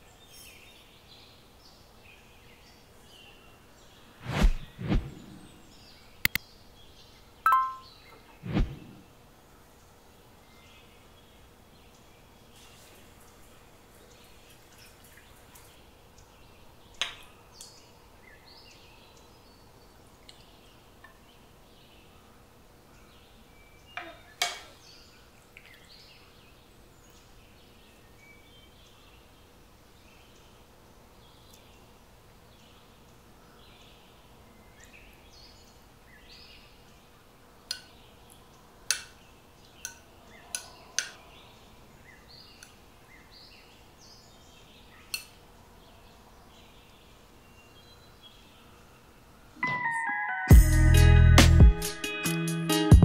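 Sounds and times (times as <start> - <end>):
faint background hiss: 0.0 - 49.7.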